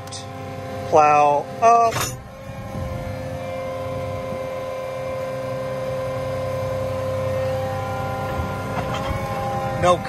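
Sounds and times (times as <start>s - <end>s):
tractor diesel engine humming: 0.0s - 10.0s.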